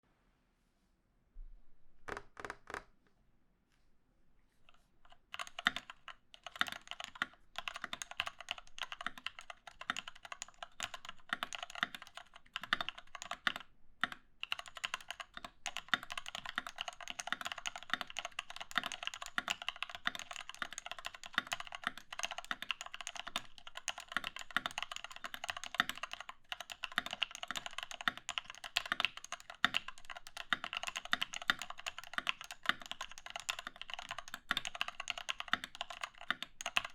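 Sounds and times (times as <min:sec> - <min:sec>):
mechanical keyboard typing: 0:05.1 - 0:36.9.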